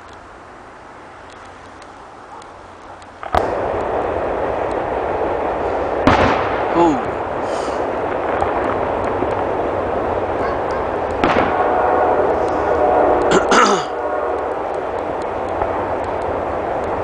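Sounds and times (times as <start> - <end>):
background rumble: 0.0 - 17.0
fireworks bangs: 3.2 - 17.0.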